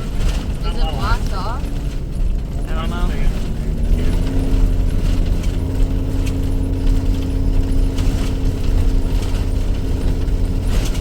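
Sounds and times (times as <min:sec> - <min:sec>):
light rattles: 0:00.0 - 0:11.0
vehicle engine and road rumble: 0:00.0 - 0:11.0.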